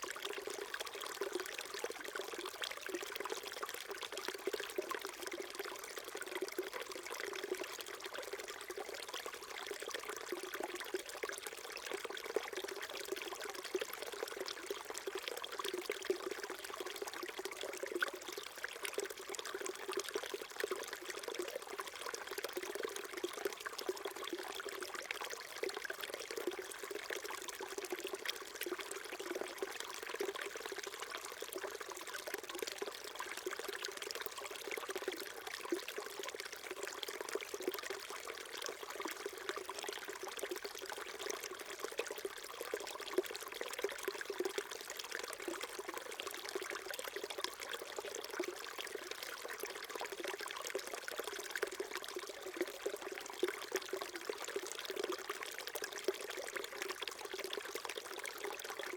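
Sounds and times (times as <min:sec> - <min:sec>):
stream burbling over rocks: 0:00.0 - 0:58.9.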